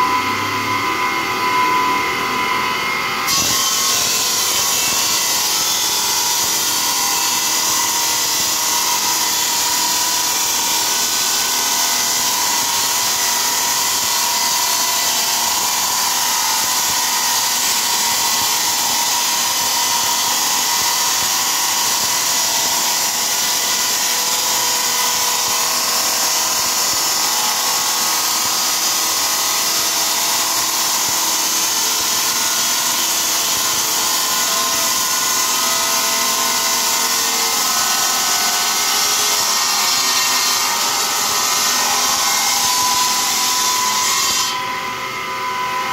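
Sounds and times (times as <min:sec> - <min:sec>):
stone-cutting saw whining: 0:00.0 - 0:45.9.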